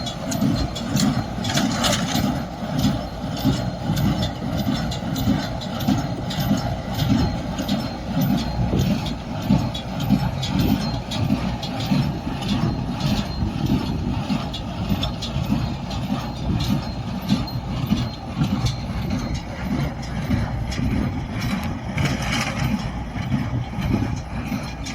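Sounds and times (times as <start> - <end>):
tractor engine drone: 0.0 - 24.9.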